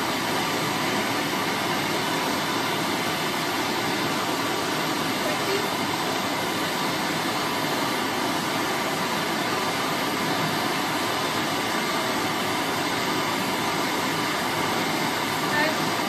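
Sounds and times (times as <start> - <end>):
gas torches hissing: 0.0 - 16.0.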